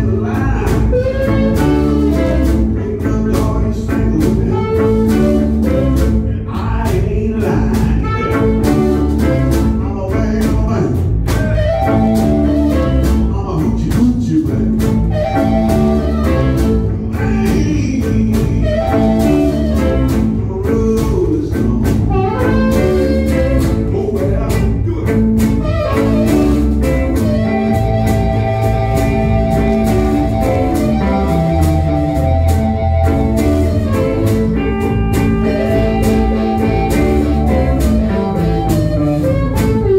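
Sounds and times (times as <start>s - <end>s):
blues harmonica bending notes: 0.0s - 6.5s, 7.7s - 10.0s, 11.0s - 39.9s
cajon steady beat: 0.0s - 39.9s
guitars: 0.0s - 39.9s.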